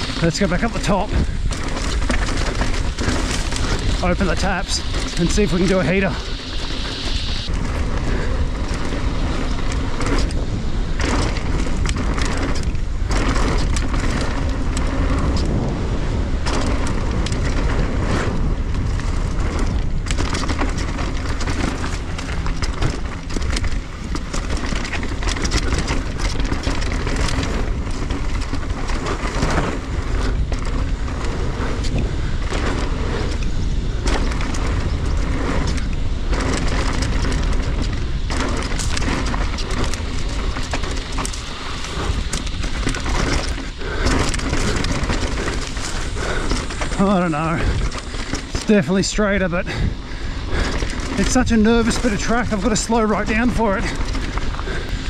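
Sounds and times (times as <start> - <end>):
bike rattling over bumps: 0.0 - 55.0
tyres rumbling over dirt: 0.0 - 55.0
wind buffeting microphone: 0.0 - 55.0.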